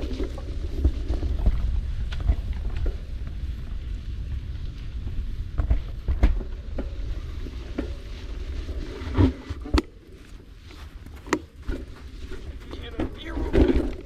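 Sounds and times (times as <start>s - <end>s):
bike knocks and rattles: 0.0s - 8.3s, 11.0s - 14.0s
low rumble of wind and tyres: 0.0s - 14.0s.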